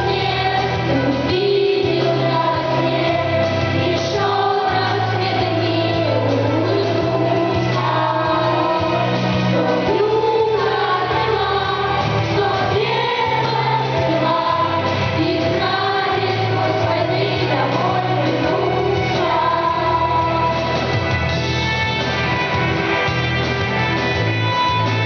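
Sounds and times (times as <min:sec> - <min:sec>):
choir singing: 0:00.0 - 0:21.0
instrumental accompaniment: 0:00.0 - 0:25.0.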